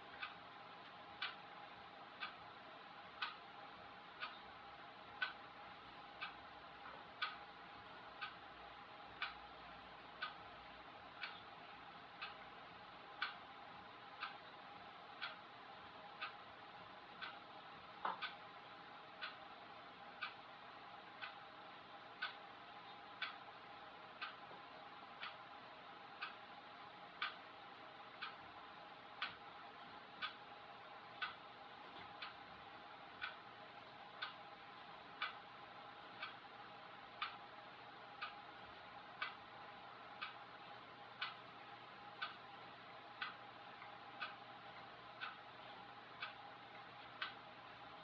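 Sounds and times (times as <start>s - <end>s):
even ticking: 0.0s - 48.0s
faint steady hum: 0.0s - 48.0s.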